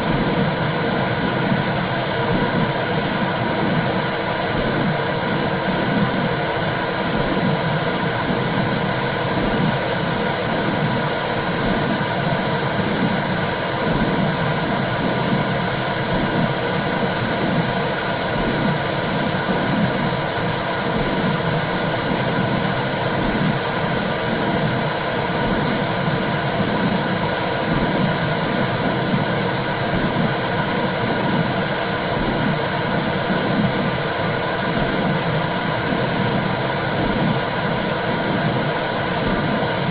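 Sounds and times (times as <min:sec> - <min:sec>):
low regular pulsing: 0:00.0 - 0:39.9.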